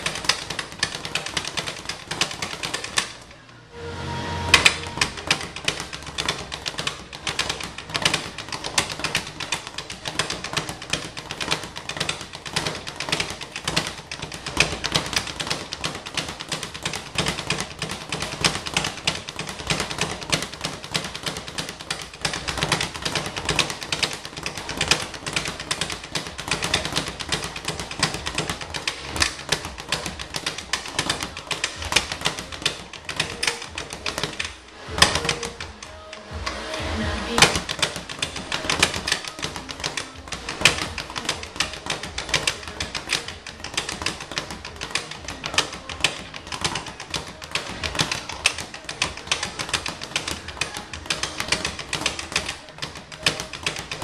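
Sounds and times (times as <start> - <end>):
speed bag rattling: 0.0 - 3.3, 4.9 - 54.0.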